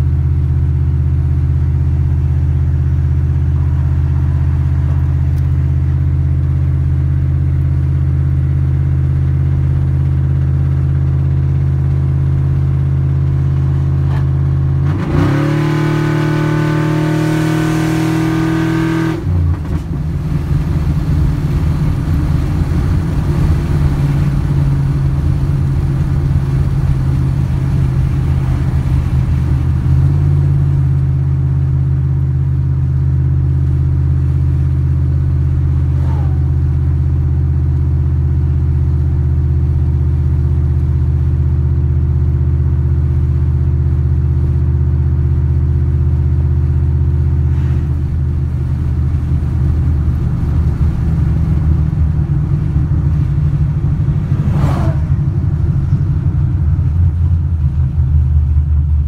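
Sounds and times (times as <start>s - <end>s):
pickup truck engine running: 0.0s - 15.0s, 19.2s - 59.0s.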